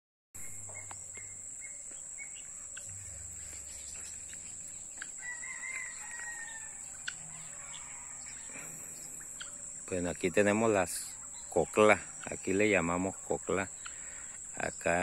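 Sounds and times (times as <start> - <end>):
fowl calling: 0.4 - 14.7
high-pitched insect drone: 0.4 - 15.0.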